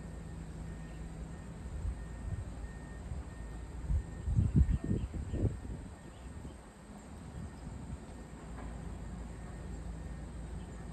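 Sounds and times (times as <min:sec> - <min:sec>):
low outdoor rumble: 0:00.0 - 0:10.9.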